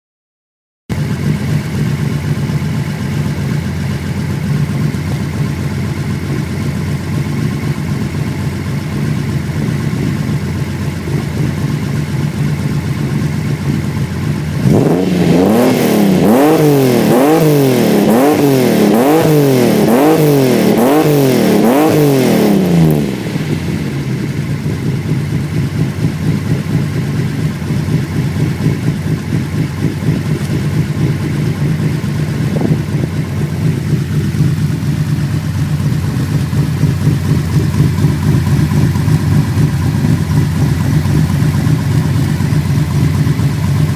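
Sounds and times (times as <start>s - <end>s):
engine throttle blips: 0.9s - 43.9s
loud car engine idling: 0.9s - 43.9s.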